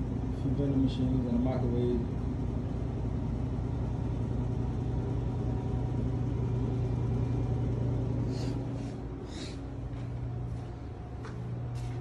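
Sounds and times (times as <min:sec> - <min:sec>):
vending machines humming: 0:00.0 - 0:12.0.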